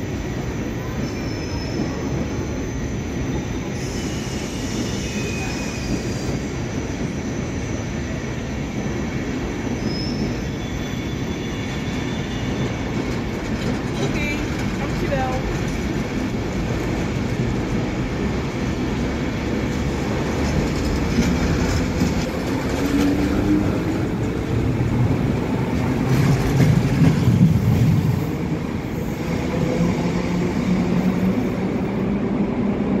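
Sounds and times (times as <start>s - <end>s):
wheels rumbling on rails: 0.1s - 33.0s.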